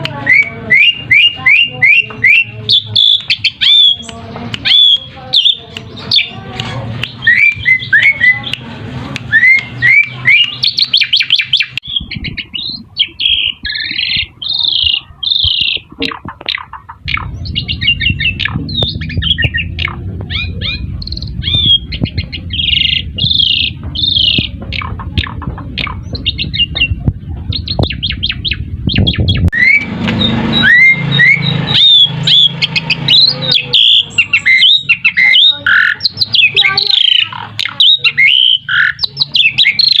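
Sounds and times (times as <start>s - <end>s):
starlings singing: 0.0s - 40.0s.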